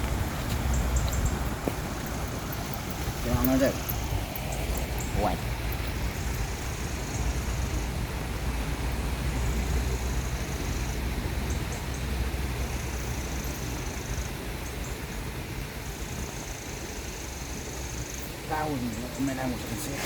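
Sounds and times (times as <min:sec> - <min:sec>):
riverside low rumble: 0:00.0 - 0:20.0.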